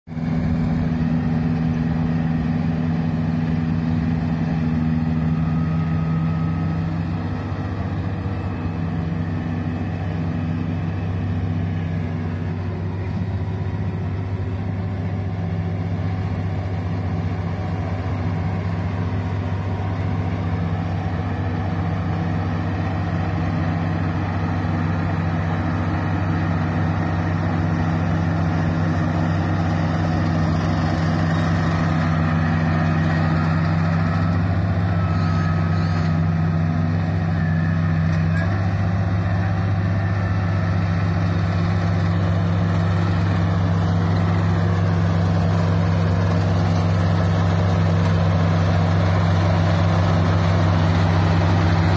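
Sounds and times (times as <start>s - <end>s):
combine harvester engine drone: 0.1s - 51.9s.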